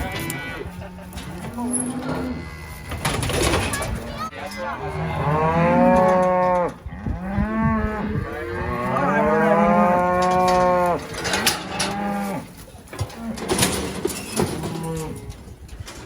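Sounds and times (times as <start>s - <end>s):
cattle mooing: 0.0s - 3.8s, 4.4s - 15.4s.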